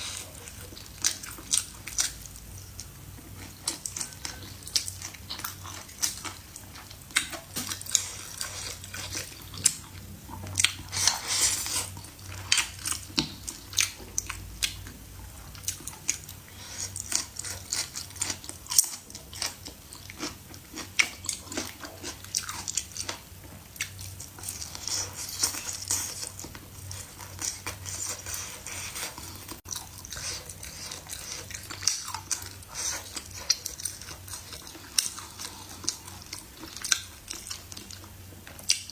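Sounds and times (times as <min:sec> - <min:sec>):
person chewing and biting food: 0:00.0 - 0:23.2, 0:23.8 - 0:38.9.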